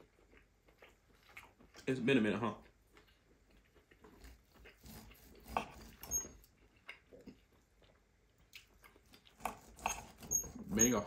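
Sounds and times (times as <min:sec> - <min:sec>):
chewing and mouth smacks: 0:00.0 - 0:02.0, 0:02.6 - 0:10.2.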